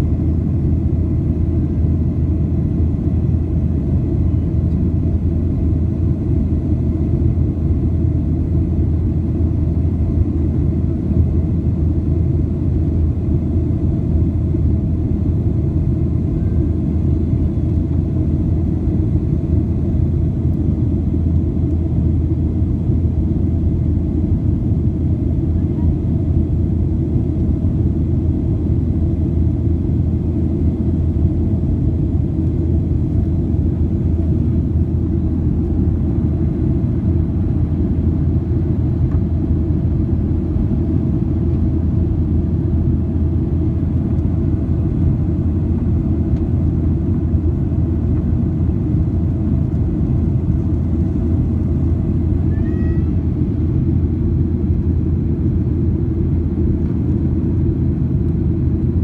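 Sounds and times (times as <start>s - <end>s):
airplane cabin roar: 0.0s - 59.0s.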